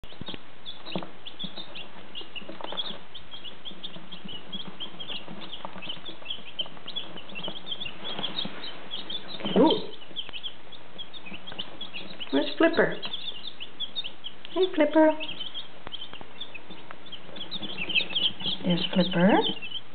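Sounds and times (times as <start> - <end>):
chicks peeping: 0.0 - 19.9.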